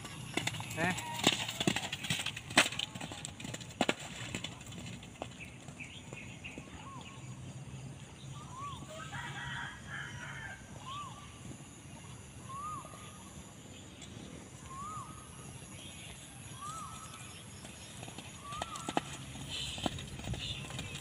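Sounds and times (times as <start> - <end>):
horse galloping on grass: 0.0 - 11.0, 14.7 - 21.0.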